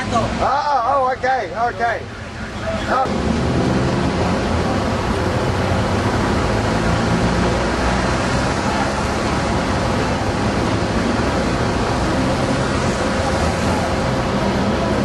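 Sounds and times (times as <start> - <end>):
engines running steadily: 0.0 - 15.0.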